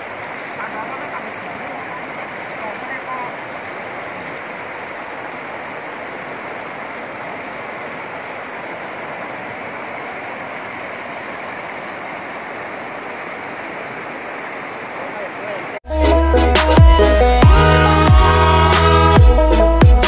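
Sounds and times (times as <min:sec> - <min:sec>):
floodwater flowing: 0:00.0 - 0:20.0.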